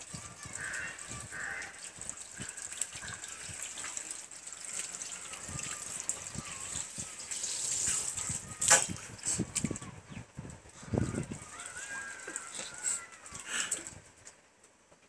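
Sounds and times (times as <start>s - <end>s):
water gushing from garden hose: 0.0s - 9.9s, 10.8s - 14.0s.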